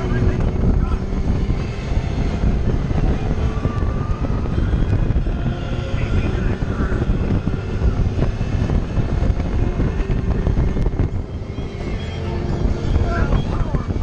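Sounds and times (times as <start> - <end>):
ride car rumbling on track: 0.0 - 14.0
wind rushing: 0.0 - 14.0.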